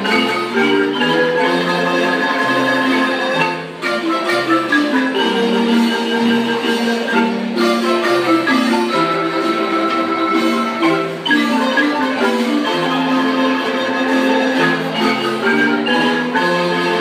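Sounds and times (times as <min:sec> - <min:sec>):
marimbas playing: 0:00.0 - 0:17.0.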